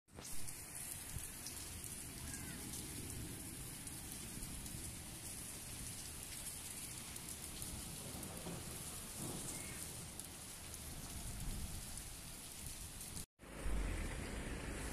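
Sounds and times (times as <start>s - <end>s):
heavy rain on pavement: 0.2s - 14.9s.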